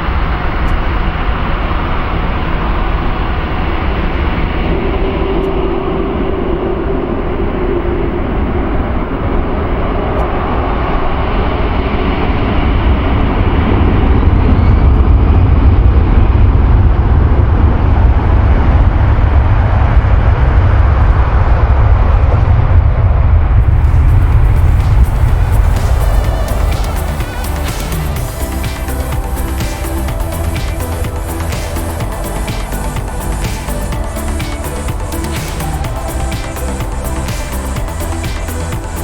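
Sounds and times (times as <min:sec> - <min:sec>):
jet engines rushing and rumbling: 0:00.0 - 0:39.0.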